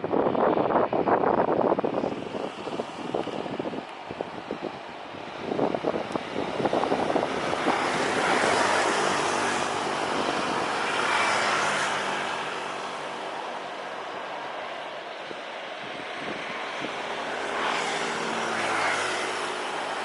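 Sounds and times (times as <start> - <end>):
jet engines passing close: 0.0 - 20.0.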